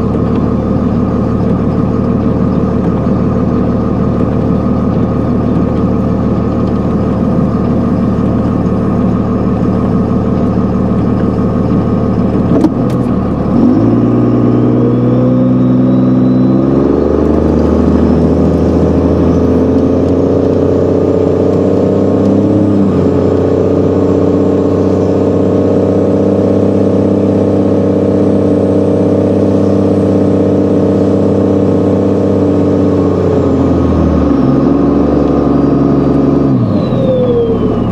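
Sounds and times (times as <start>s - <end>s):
diesel truck engine running: 0.0s - 37.9s.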